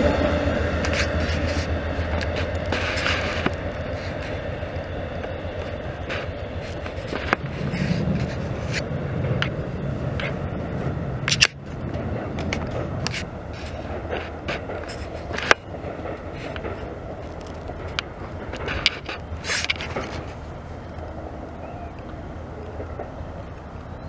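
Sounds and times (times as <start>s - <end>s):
train rumbling past: 0.0s - 24.0s
wheels clicking on rails: 0.0s - 24.0s.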